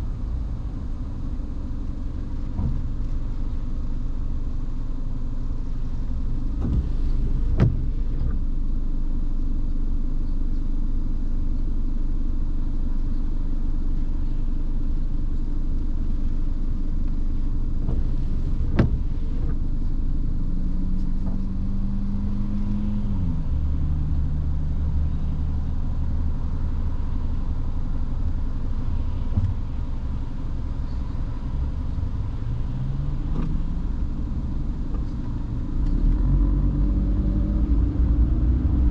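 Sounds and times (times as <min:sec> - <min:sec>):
car engine rumble: 0:00.0 - 0:38.9.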